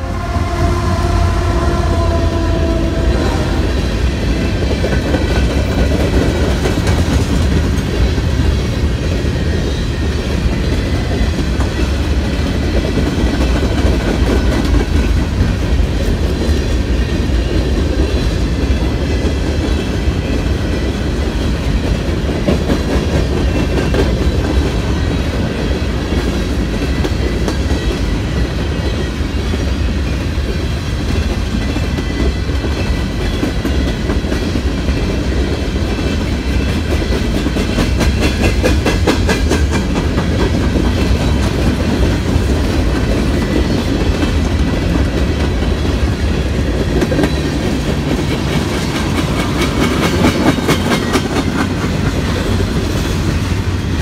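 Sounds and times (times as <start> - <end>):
steel wheels rolling on rails: 0.0 - 54.0
wheels clacking over rail joints: 0.0 - 54.0.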